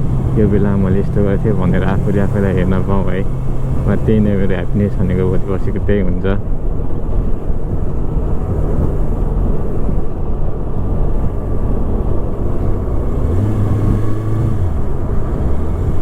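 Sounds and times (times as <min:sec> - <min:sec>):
motorcycle engine running: 0:00.0 - 0:16.0
wind rushing on microphone: 0:00.0 - 0:16.0.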